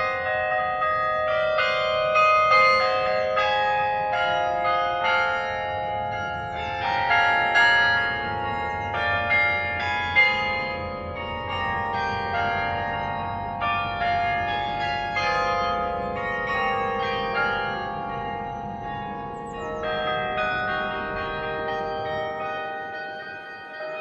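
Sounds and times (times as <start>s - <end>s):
tower bells playing melody: 0.0s - 24.0s.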